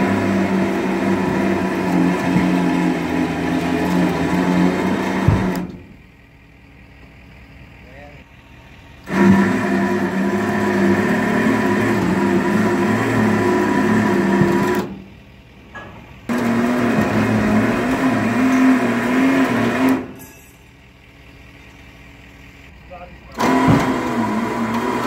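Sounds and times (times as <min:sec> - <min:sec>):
winch motor straining: 0:00.0 - 0:07.5, 0:08.6 - 0:15.2, 0:16.0 - 0:25.0.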